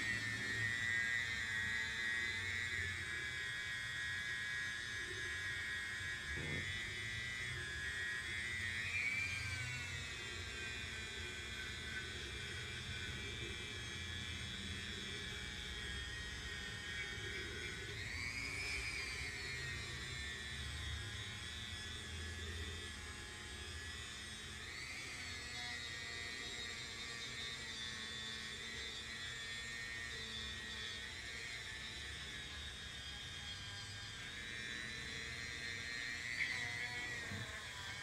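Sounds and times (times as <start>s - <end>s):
rotary tool whining on metal: 0.0s - 38.0s.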